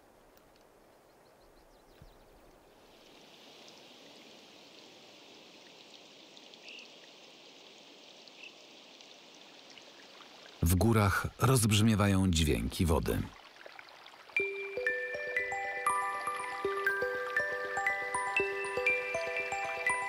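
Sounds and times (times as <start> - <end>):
water trickling over rocks: 2.2 - 20.0.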